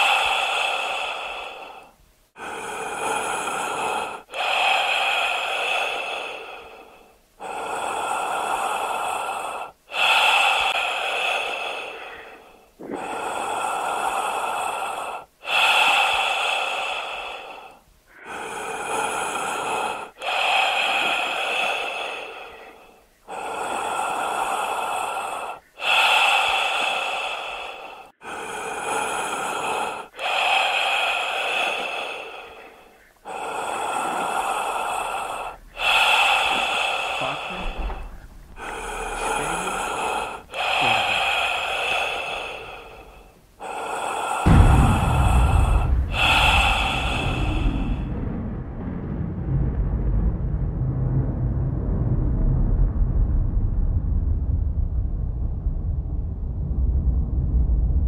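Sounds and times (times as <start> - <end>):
deep human breathing: 0.0 - 58.0.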